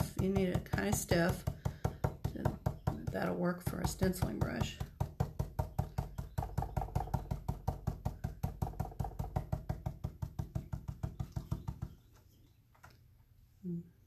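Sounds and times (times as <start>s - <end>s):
brush tapping on board: 0.0s - 12.2s.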